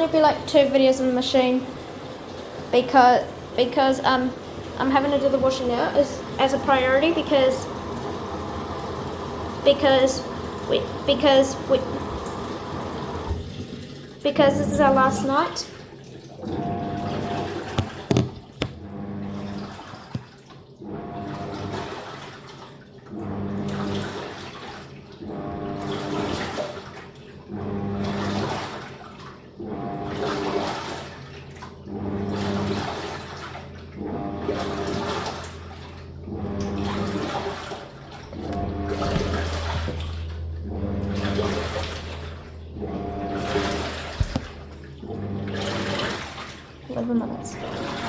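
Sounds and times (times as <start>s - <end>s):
washing machine motor humming: 0.0s - 48.0s
water sloshing: 0.0s - 48.0s.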